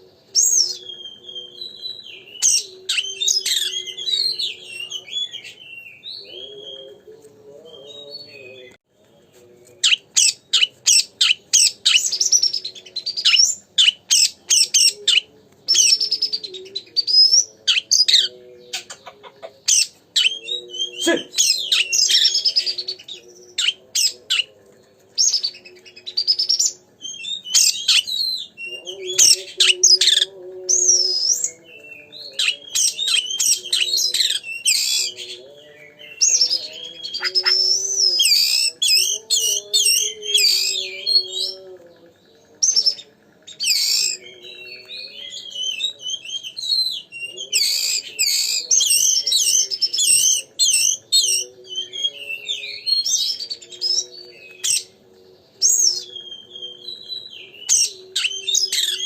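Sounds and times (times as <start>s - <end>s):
songbird whistling and chirping: 0.0s - 7.1s, 9.8s - 24.6s, 25.2s - 59.0s.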